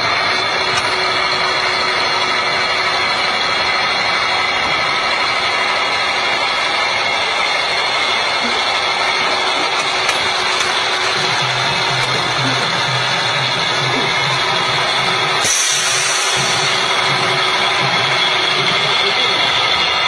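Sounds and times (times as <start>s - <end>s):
rock drilling rig drilling: 0.0s - 20.0s.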